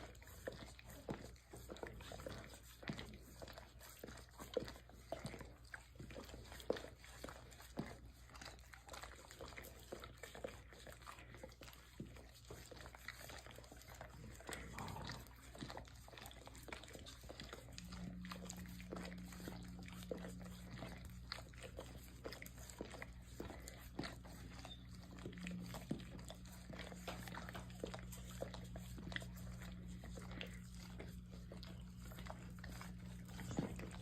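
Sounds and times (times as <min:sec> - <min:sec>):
dogs licking: 0:00.0 - 0:34.0.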